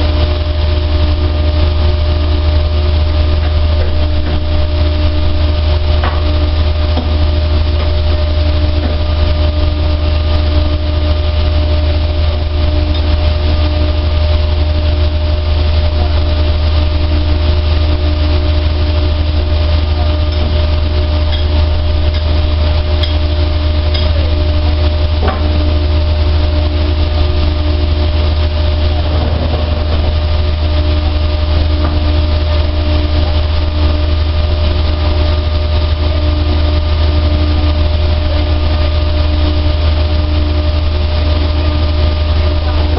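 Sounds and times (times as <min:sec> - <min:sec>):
dryer machine humming: 0:00.0 - 0:42.9.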